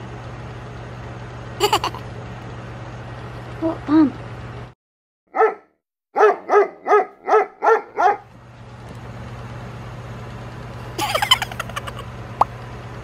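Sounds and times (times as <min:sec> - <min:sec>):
low room hum: 0:00.0 - 0:04.8, 0:07.3 - 0:13.0.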